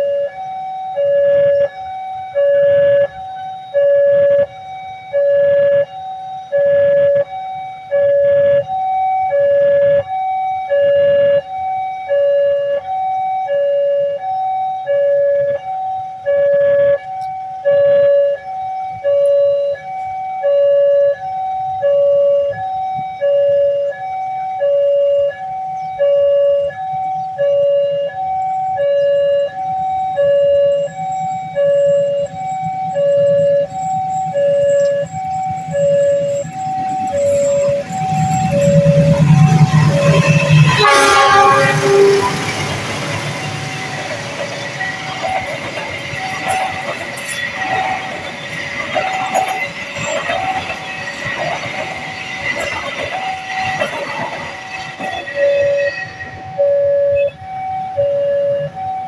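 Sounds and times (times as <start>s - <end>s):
level crossing two-tone alarm: 0.0s - 59.0s.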